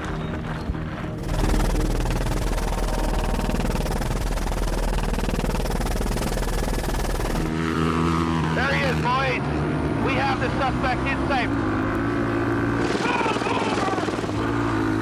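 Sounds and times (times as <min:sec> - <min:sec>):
deep engine drone: 0:00.0 - 0:15.0
helicopter rotor chop: 0:00.8 - 0:11.6, 0:12.7 - 0:15.0.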